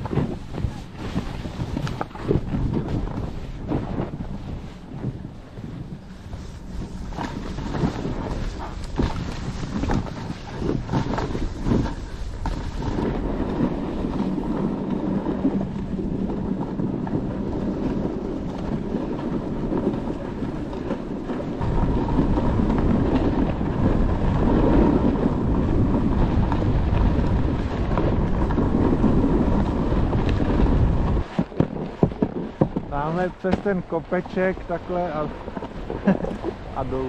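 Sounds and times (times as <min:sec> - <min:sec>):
skis running over snow: 0:00.0 - 0:37.0
wind rushing across microphone: 0:00.0 - 0:37.0.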